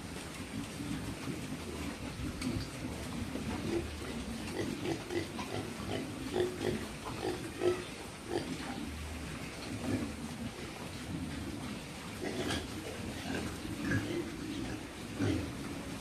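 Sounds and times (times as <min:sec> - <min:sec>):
pigs munching leaves: 0:00.0 - 0:16.0
pigs grunting: 0:00.4 - 0:16.0.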